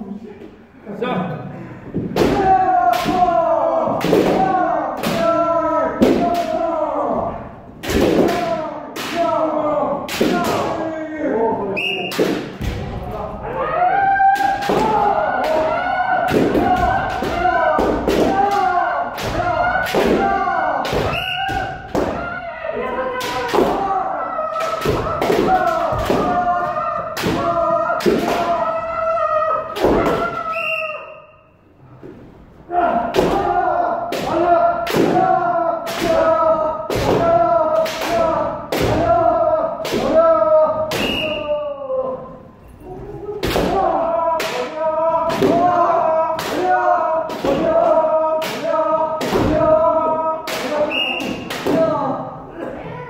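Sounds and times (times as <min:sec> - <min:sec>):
people shouting: 0:02.0 - 0:31.5, 0:32.6 - 0:53.0.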